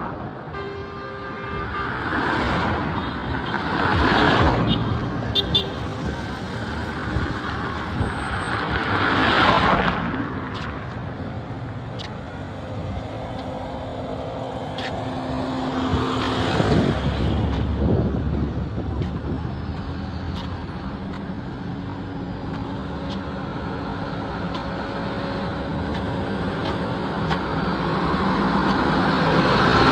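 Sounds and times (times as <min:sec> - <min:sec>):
hum of engines and tyres: 0:00.0 - 0:29.9
vehicles passing close by: 0:00.0 - 0:29.9.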